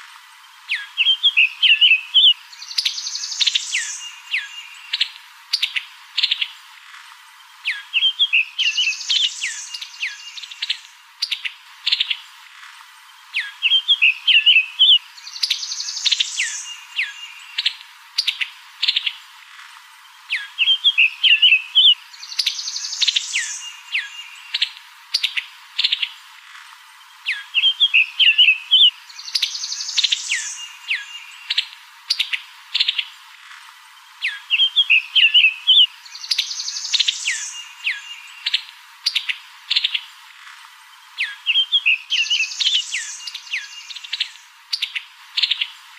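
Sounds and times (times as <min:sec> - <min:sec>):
birds chirping: 0:00.4 - 0:45.9.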